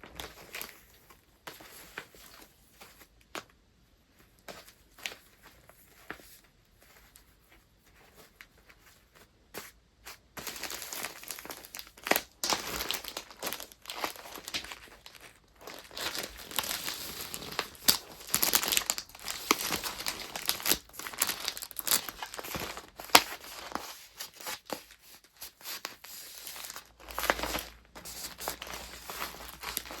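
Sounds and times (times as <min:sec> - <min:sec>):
paper crinkling and rustling: 0:00.0 - 0:30.0.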